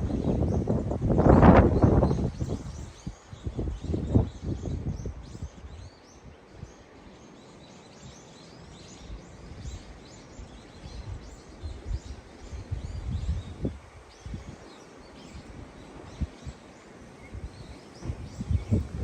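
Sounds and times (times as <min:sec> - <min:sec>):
gusty wind buffeting microphone: 0:00.0 - 0:06.9, 0:08.8 - 0:19.0
small birds chirping: 0:00.0 - 0:19.0.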